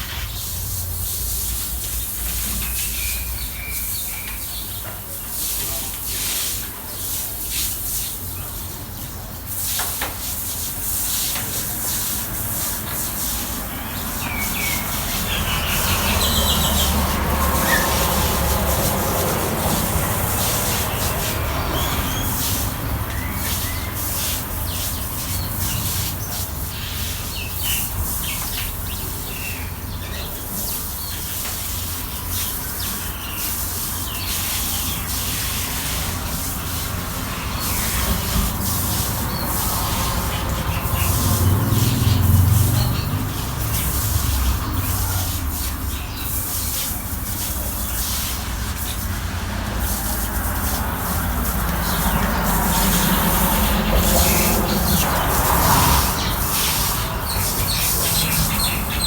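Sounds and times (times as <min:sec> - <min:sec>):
broom sweeping the ground: 0:00.0 - 0:59.0
birds chirping: 0:02.0 - 0:06.1, 0:12.6 - 0:48.1, 0:50.4 - 0:59.0.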